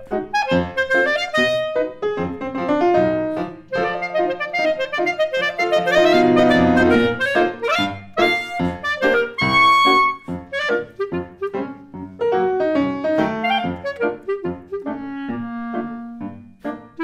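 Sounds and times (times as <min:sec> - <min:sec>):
clarinet melody: 0:00.0 - 0:17.0
piano notes and chords: 0:00.0 - 0:17.0.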